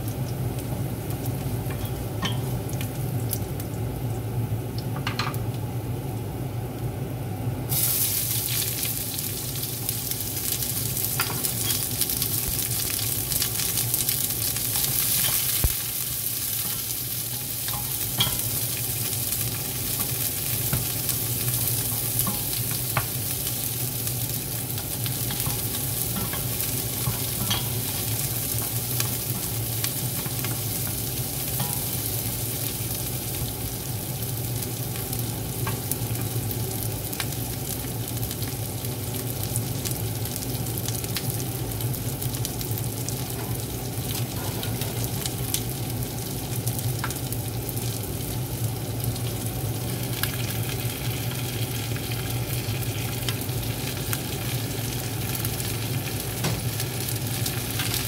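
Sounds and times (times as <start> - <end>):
onion sizzling in hot oil: 0.0 - 58.0.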